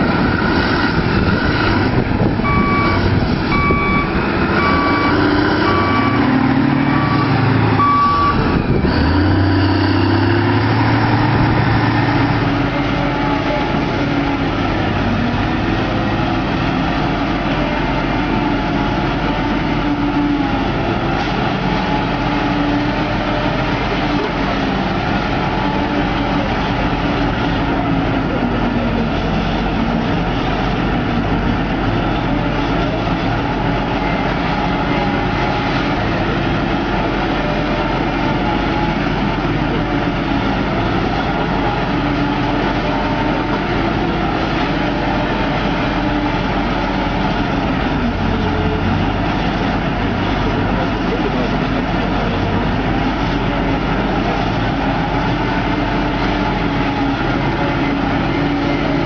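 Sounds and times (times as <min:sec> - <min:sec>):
diesel engine under hydraulic load: 0:00.0 - 0:59.0.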